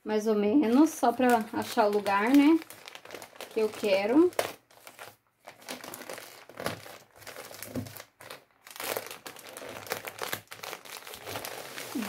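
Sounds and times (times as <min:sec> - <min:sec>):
plastic mailing bag crinkling: 0:00.6 - 0:12.0.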